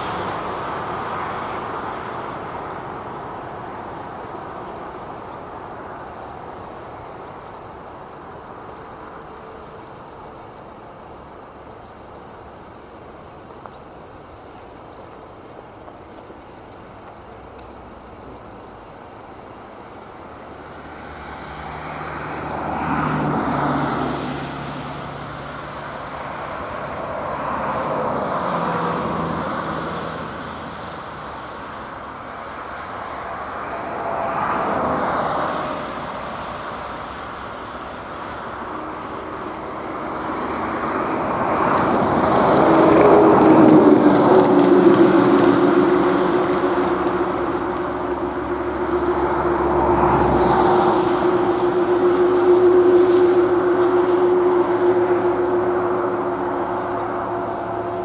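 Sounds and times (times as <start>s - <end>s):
low engine hum: 0.0s - 58.0s
vehicle rumble: 0.0s - 58.0s.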